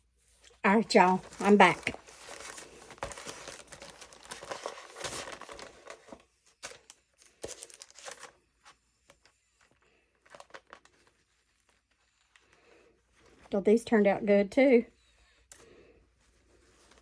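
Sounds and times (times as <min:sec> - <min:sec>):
rustling and crinkling: 0:00.0 - 0:13.6, 0:14.6 - 0:17.0.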